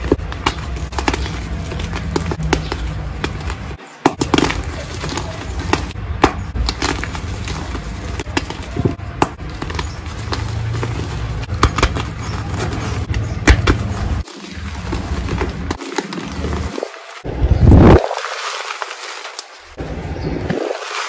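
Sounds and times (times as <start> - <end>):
powder rubbing: 0.0 - 17.3.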